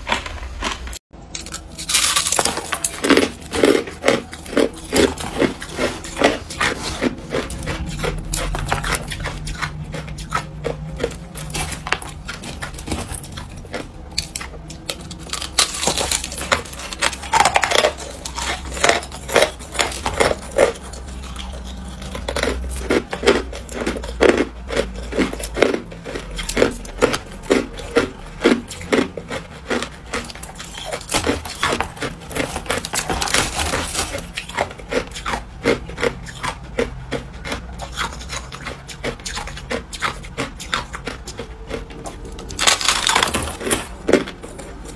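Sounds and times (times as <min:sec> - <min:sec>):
chewing crushed ice: 0:00.0 - 0:44.9.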